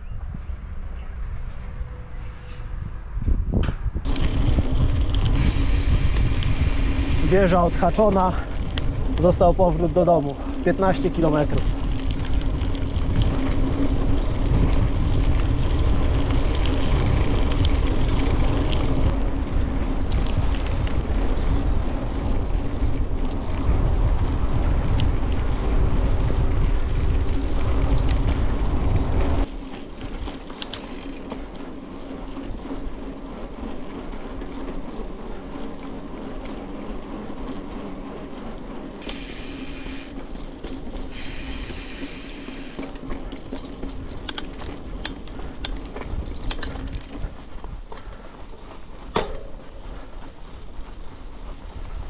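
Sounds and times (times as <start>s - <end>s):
bicycle tyre hum: 0.0s - 52.0s
wind buffeting microphone: 0.0s - 52.0s.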